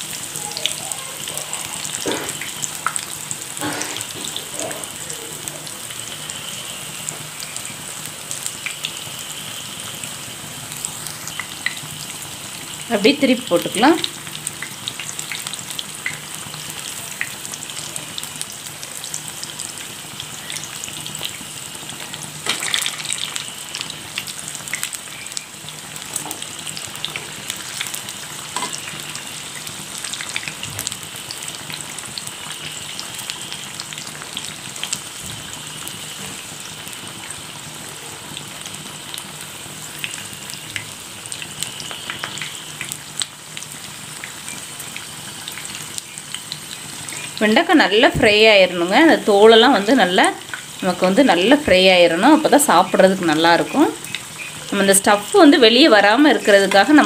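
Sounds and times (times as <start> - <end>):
food deep-frying in oil: 0.0 - 57.0.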